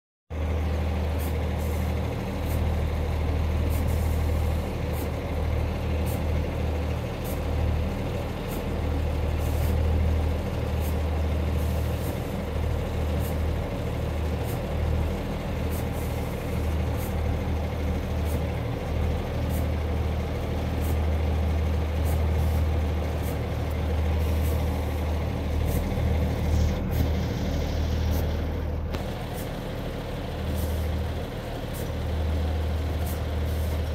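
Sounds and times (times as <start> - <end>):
diesel train engine drone: 0.3 - 33.9.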